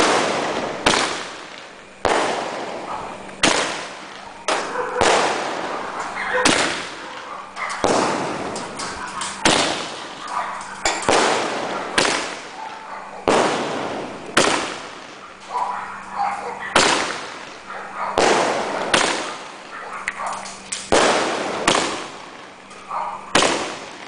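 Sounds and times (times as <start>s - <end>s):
fireworks hiss: 0.0s - 15.5s, 16.7s - 24.0s
fireworks bangs: 0.0s - 24.0s.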